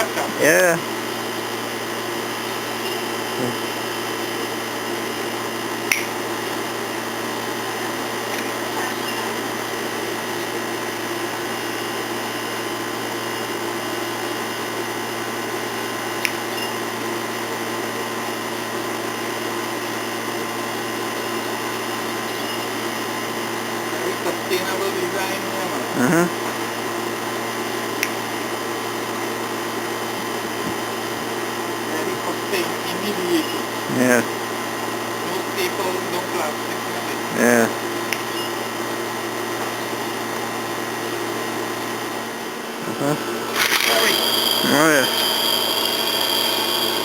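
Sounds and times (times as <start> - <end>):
mechanical whir with hum: 0.0 - 47.0.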